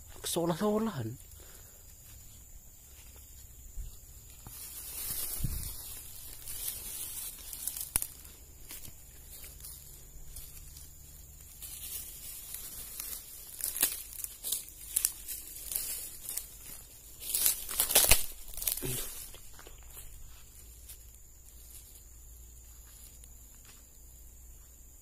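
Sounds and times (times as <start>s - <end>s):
dry fronds rustling and crackling: 0.1s - 24.2s
footsteps: 1.8s - 24.1s.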